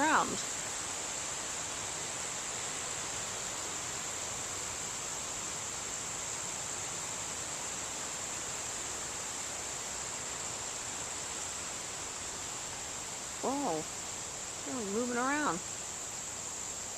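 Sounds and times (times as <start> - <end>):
insects droning: 0.0 - 16.9
wind and rustling leaves: 0.0 - 16.9.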